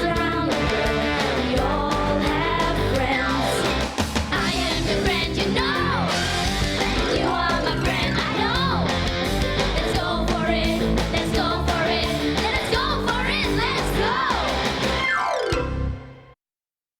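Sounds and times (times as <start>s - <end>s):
drums: 0.0s - 16.1s
upbeat rock theme song: 0.0s - 16.2s.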